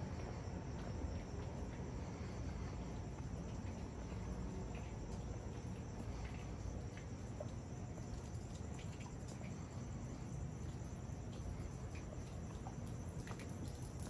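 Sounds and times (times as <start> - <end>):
faint ticks: 0.0 - 14.0
low outdoor rumble: 0.0 - 14.0
night insects chirping: 0.0 - 14.0.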